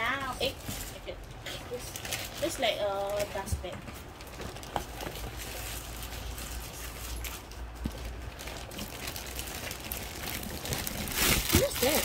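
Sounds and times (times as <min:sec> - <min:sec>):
paper and packaging rustling: 0:00.0 - 0:12.0.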